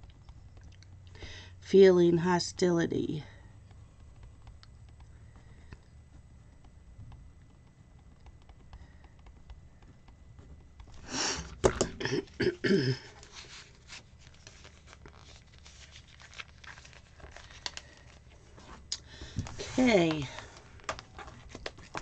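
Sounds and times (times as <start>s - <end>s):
crinkling and rustling: 3.2s - 22.0s.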